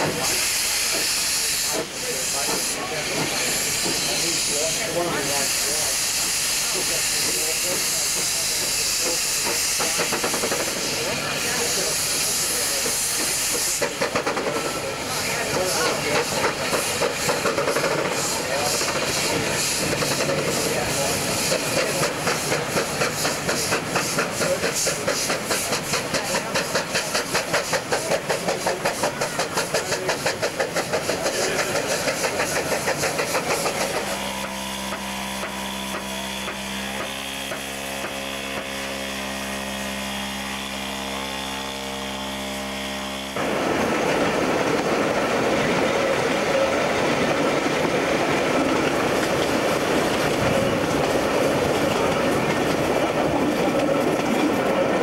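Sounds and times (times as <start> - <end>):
steam locomotive chuffing: 0.0 - 55.0
train carriages clickety-clack: 0.0 - 55.0.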